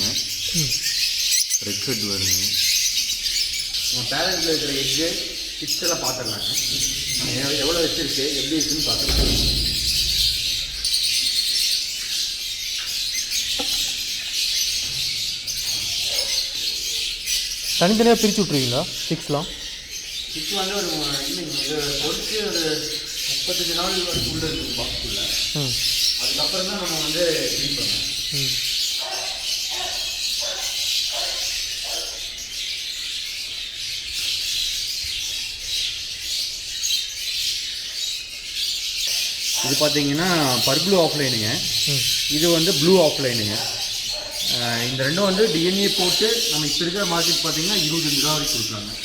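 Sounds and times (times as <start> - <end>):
lovebirds chirping and chattering: 0.0 - 49.0.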